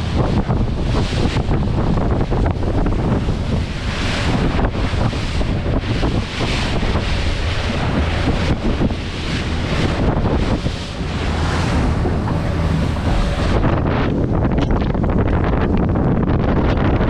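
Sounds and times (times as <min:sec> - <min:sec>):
choppy water rushing along hull: 0:00.0 - 0:17.0
wind buffeting microphone: 0:00.0 - 0:17.0.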